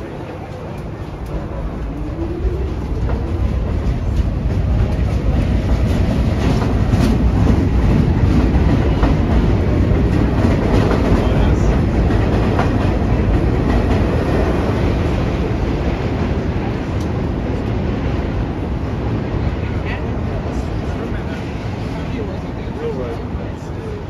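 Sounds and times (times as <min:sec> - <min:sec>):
subway train rumbling on rails: 0:00.0 - 0:24.0.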